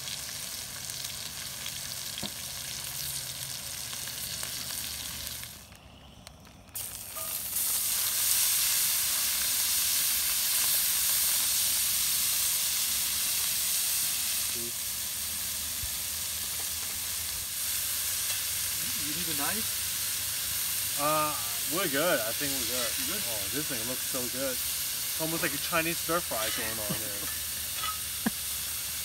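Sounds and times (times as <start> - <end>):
vegetables sizzling stir-fried: 0.0 - 5.7, 6.7 - 29.0
steaks searing in a skillet: 0.0 - 5.8, 6.7 - 29.0.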